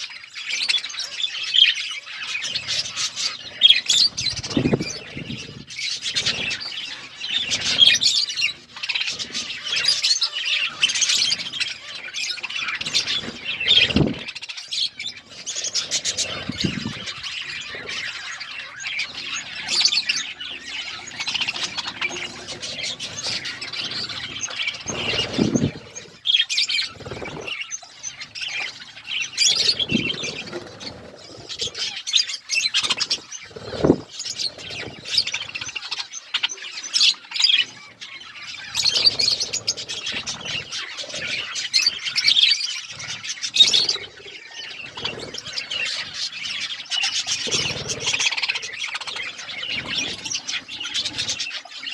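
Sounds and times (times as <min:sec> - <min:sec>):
budgerigars chirping: 0:00.0 - 0:51.9.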